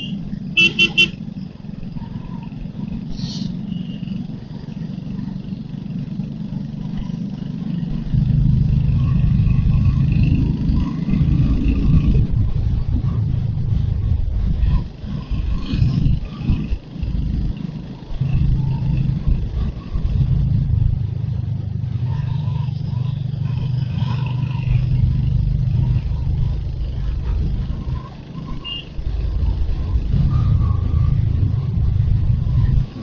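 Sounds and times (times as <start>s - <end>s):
motorcycle engine rumbling: 0.0s - 33.0s.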